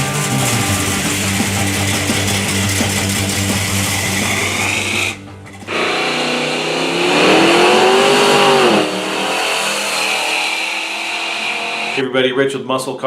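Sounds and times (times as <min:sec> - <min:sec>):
guitar music: 0:00.0 - 0:12.0
car engine revving: 0:00.0 - 0:12.1.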